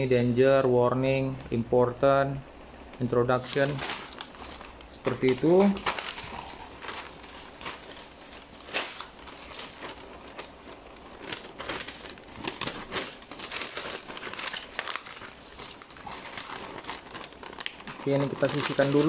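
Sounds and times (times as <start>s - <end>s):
paper rustling and crinkling: 3.0s - 19.0s.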